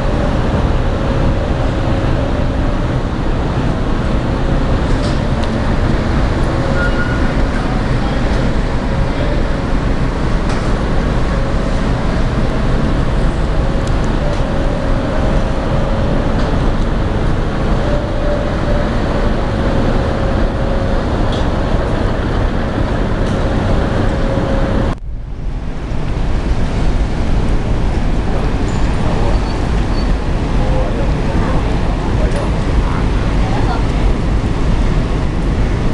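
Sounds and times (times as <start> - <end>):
loud ship noise: 0.0 - 35.9.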